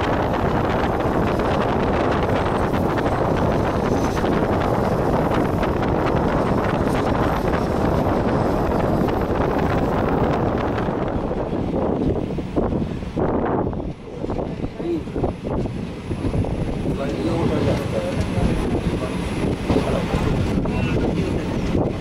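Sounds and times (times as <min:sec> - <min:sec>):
train running rumble: 0:00.0 - 0:22.0
wind buffeting microphone: 0:00.0 - 0:22.0.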